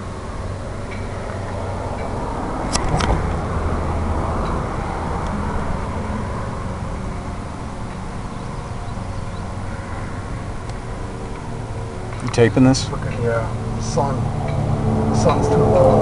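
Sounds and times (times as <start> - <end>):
background rumble: 0.0 - 16.0
low hum: 0.0 - 16.0.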